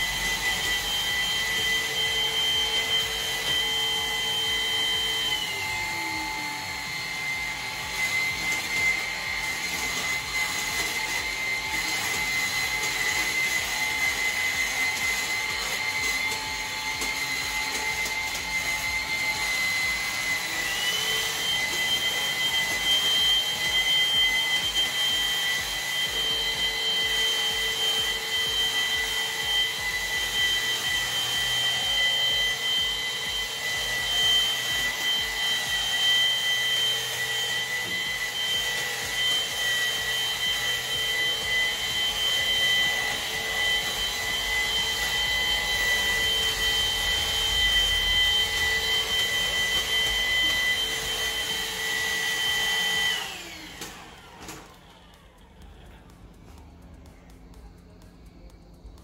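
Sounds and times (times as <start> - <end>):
higher motor whine: 0.0 - 58.8
stick vacuum running: 0.0 - 59.0.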